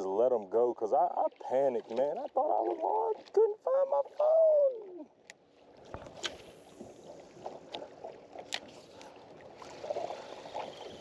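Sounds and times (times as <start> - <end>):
waves lapping against boat hull: 0.0 - 11.0.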